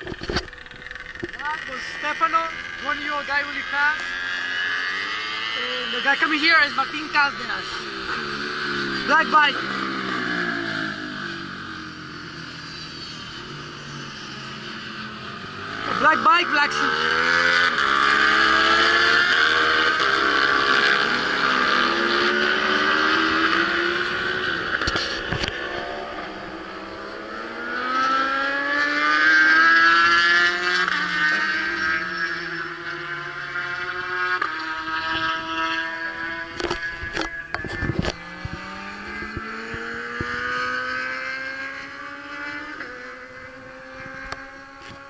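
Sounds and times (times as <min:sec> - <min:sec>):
racing motorcycles passing: 0:00.0 - 0:45.0.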